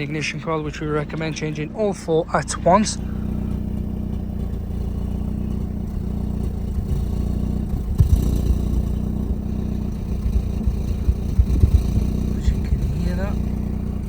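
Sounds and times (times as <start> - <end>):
engine misfiring at exhaust: 0.0 - 14.0.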